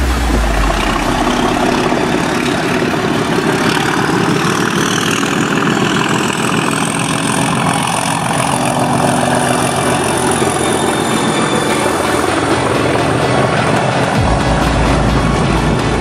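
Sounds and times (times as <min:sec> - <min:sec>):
diesel locomotive engine working hard: 0:00.0 - 0:16.0
turbocharger whistle: 0:00.0 - 0:16.0.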